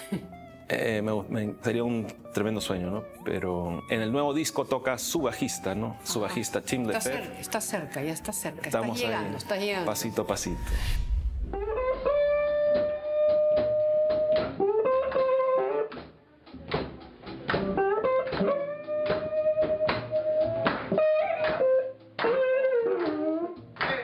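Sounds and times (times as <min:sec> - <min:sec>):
guitar melody: 0:00.0 - 0:24.0.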